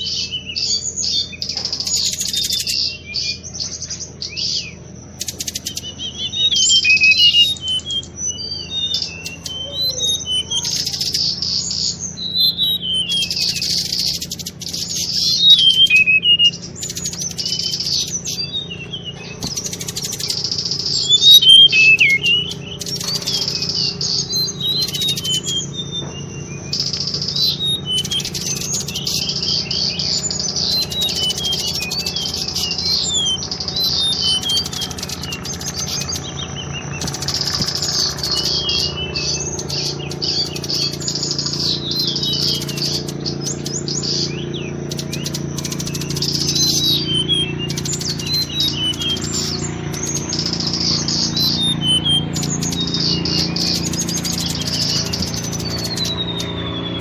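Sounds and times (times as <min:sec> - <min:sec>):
bird chirping and warbling: 0:00.0 - 0:57.0
steady low hum: 0:00.0 - 0:57.0.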